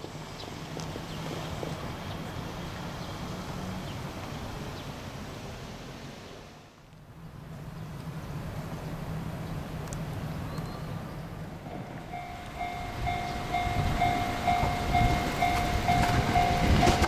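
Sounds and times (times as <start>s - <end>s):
traffic rumble: 0.0s - 17.0s
passing vehicle engine hum: 0.1s - 17.0s.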